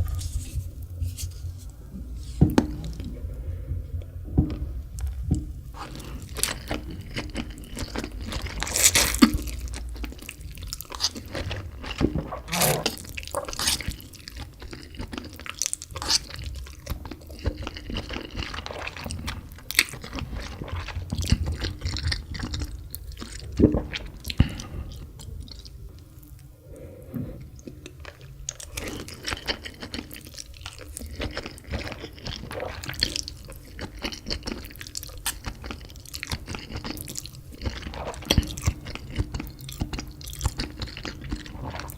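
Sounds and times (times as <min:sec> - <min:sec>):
person chewing noodles: 0:04.4 - 0:26.4, 0:27.5 - 0:41.9.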